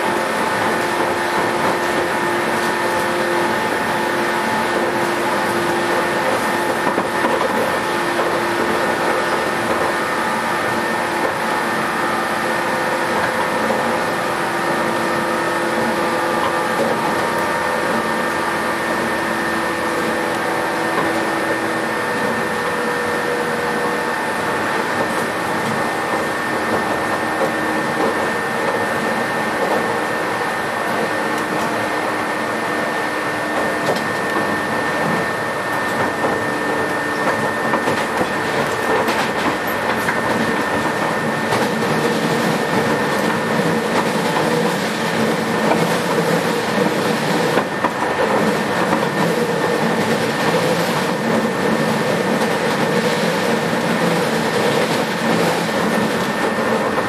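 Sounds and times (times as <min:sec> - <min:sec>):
electric train motor whine: 0:00.0 - 0:57.0
train rolling noise: 0:00.0 - 0:57.0.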